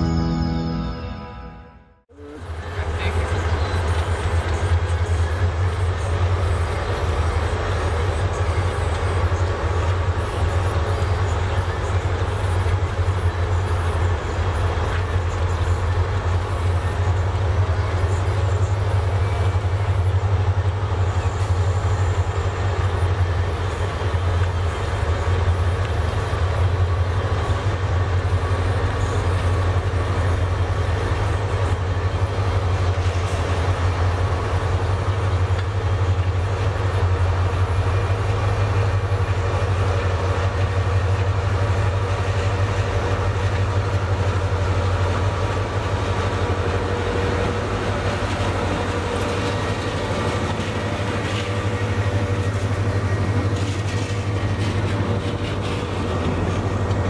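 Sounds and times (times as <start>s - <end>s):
locomotive engine hum: 0.0s - 57.0s
train running noise: 0.0s - 57.0s.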